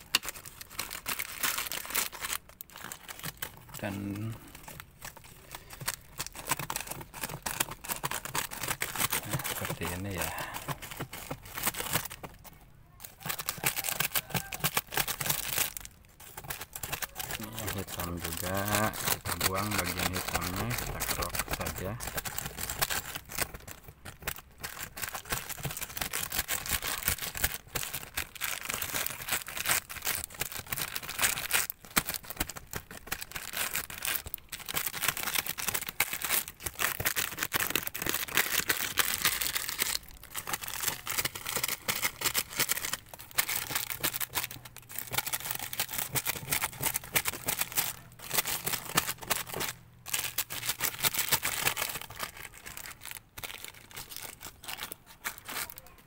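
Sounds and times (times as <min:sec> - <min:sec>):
plastic bags crinkling: 0:00.0 - 0:56.0.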